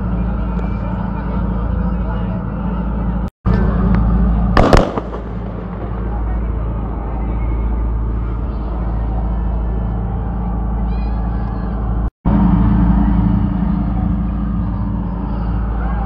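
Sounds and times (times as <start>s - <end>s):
faint voices: 0.0s - 16.0s
ship engine droning: 0.0s - 16.0s.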